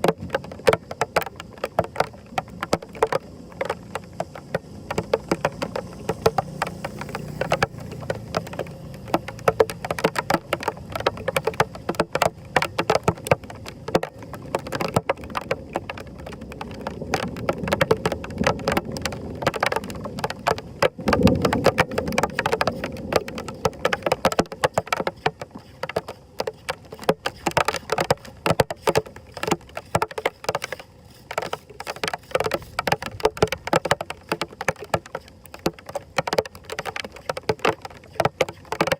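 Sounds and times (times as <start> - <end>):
heavy rain patter: 0.0 - 38.9.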